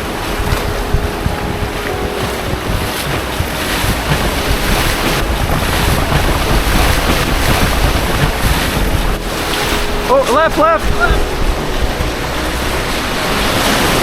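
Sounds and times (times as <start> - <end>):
whitewater rapids rushing: 0.0 - 14.0
wind rumbling on microphone: 0.0 - 14.0.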